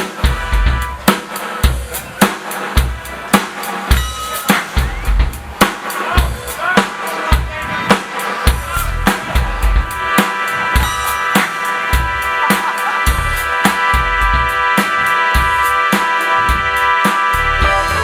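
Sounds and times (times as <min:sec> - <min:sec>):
live band playing: 0:00.0 - 0:18.0.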